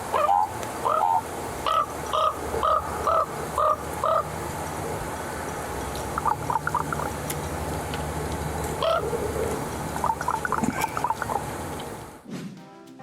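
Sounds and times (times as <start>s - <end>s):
low steady hum: 0.0s - 12.2s
raven croaking: 0.1s - 11.7s.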